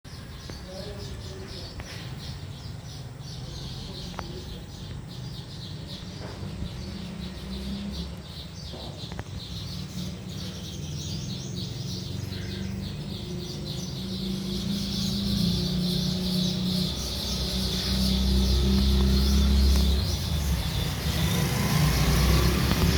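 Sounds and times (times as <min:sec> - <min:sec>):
small birds chirping: 0:00.1 - 0:22.9.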